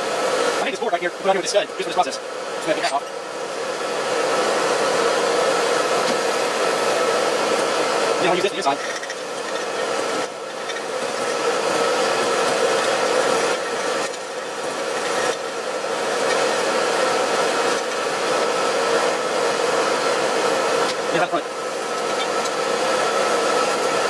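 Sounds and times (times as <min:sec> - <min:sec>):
hot-air blower whirring: 0:00.0 - 0:24.0.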